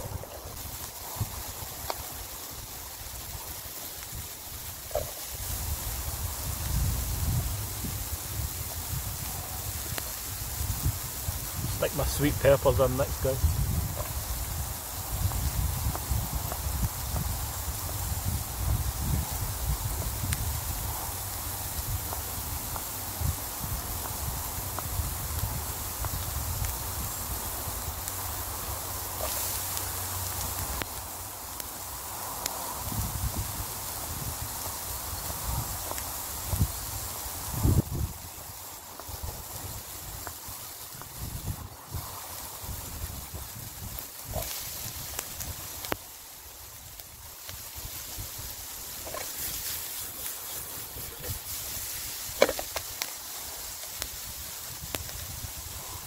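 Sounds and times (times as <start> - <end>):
steady hiss: 0.0 - 56.0
twigs crackling in fire: 0.0 - 56.0
vegetables frying in oil: 0.0 - 56.0
wind rumbling on microphone: 0.0 - 56.0.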